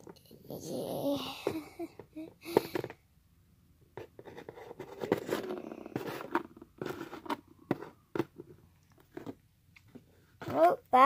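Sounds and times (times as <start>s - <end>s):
plastic toys tapping and scraping: 0.9s - 3.0s, 3.8s - 11.0s.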